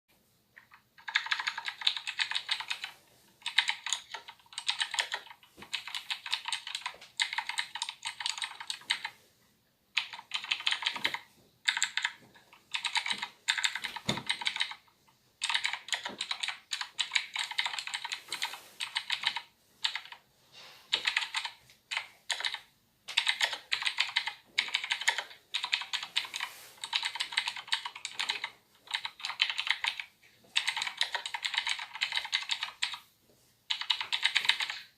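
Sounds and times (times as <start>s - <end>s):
mechanical keyboard typing: 0.6s - 9.2s, 10.0s - 20.2s, 20.9s - 33.1s, 33.7s - 34.9s.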